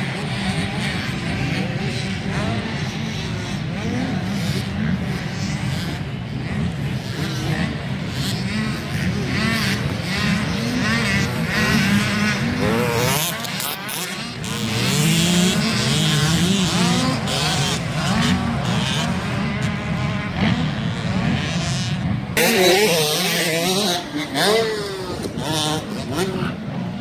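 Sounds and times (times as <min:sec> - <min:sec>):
motocross bike engines revving: 0:00.0 - 0:27.0.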